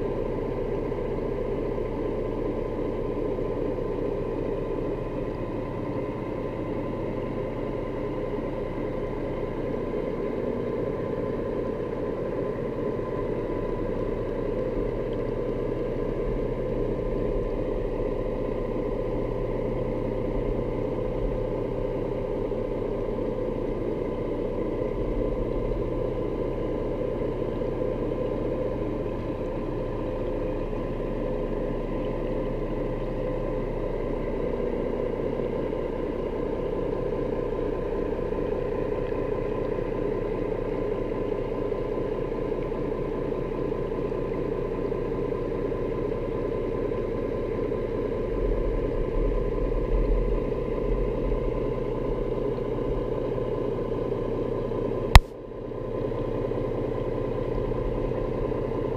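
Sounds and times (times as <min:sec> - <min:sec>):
boat motor drone underwater: 0:00.0 - 0:58.9.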